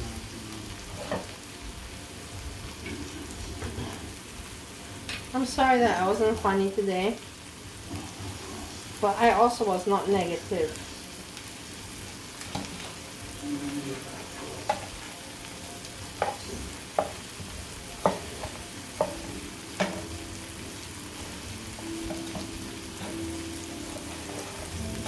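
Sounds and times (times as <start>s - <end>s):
chicken frying and sizzling: 0.0s - 25.0s.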